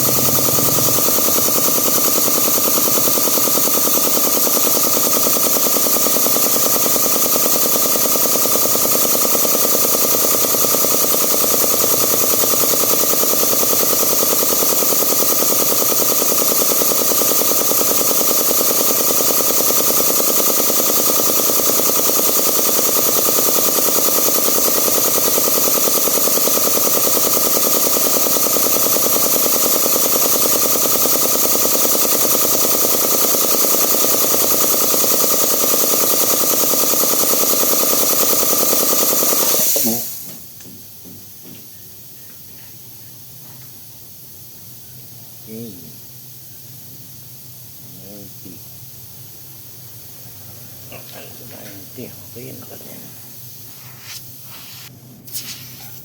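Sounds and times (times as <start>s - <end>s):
air compressor pump rattling: 0.0s - 44.8s, 45.7s - 56.0s.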